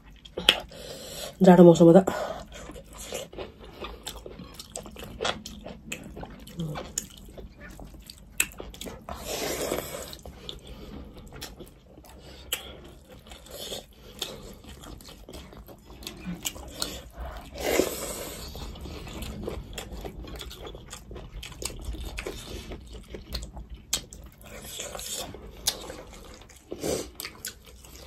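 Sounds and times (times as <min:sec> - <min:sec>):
chewing and biting food: 0:00.0 - 0:01.4, 0:02.1 - 0:28.0.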